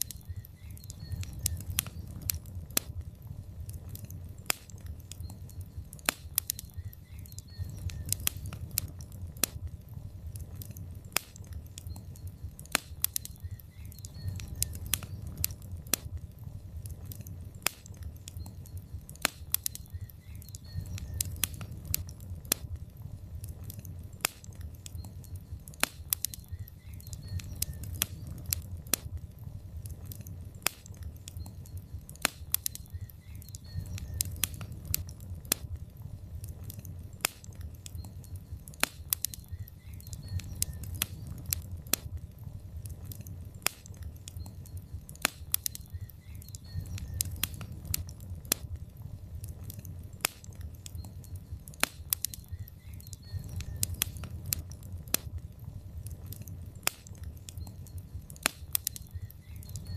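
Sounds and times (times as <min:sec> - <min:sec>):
fire crackling and popping: 0:00.0 - 0:59.9
low rumble of fire: 0:00.0 - 0:59.9.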